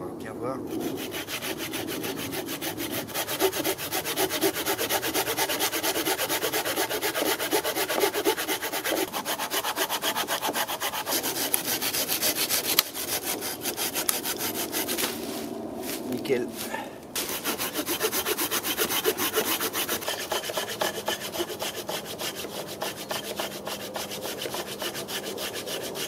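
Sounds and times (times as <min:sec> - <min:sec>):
saw cutting through log: 0:00.7 - 0:26.0.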